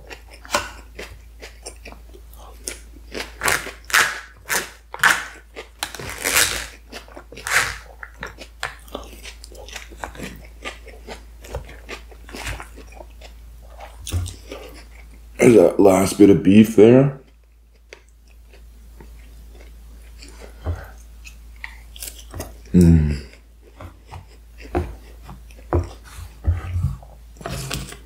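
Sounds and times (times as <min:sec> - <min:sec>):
close chewing with mouth clicks: 0:00.0 - 0:15.3, 0:17.2 - 0:27.9.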